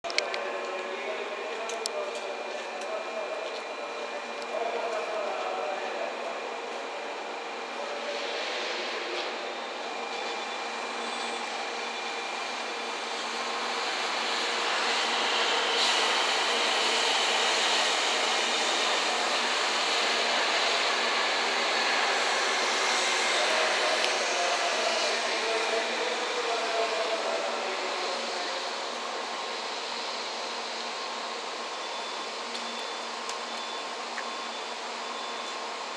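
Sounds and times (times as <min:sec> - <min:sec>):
train wheels rushing on rails: 0:00.1 - 0:31.7.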